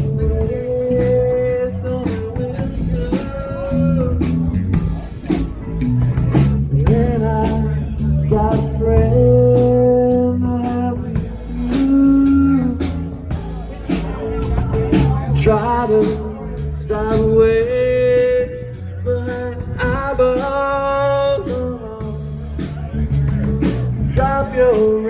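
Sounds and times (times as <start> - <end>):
drum kit: 0.0 - 25.0.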